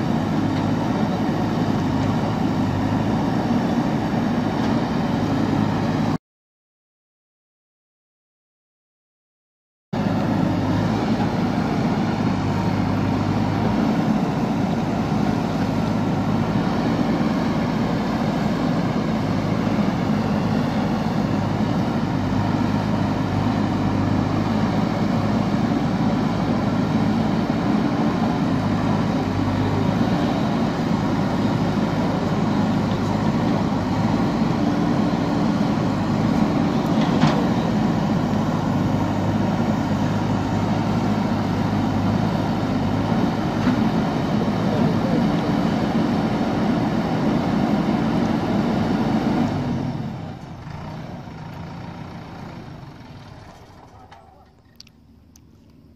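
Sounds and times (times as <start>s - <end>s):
diesel engine running: 0.0s - 6.2s, 10.0s - 55.9s.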